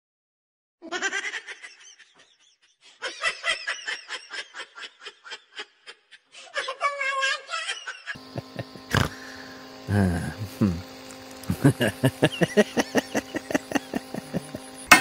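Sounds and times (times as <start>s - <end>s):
person laughing hard: 0.9s - 6.8s, 7.4s - 10.8s, 11.5s - 14.7s.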